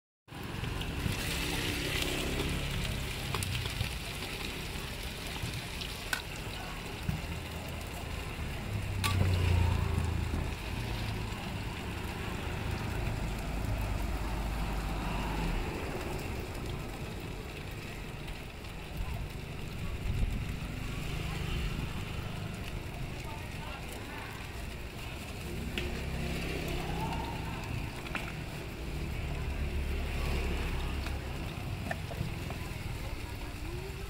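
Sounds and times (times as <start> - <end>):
low engine rumble: 0.3 - 34.0
rice cakes sizzling in oil: 0.3 - 34.0.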